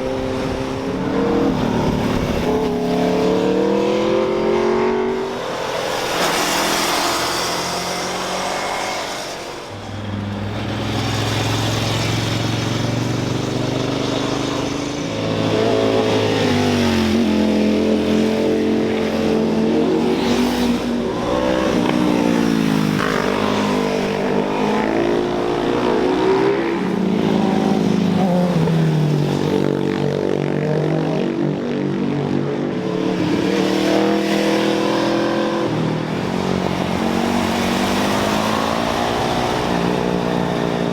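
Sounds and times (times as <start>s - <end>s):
car and motorcycle engines revving: 0.0s - 40.9s.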